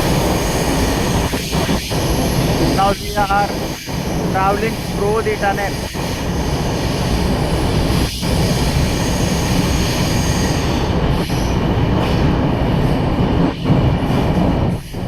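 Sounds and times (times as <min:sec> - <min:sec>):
train rumbling in tunnel: 0:00.0 - 0:15.0.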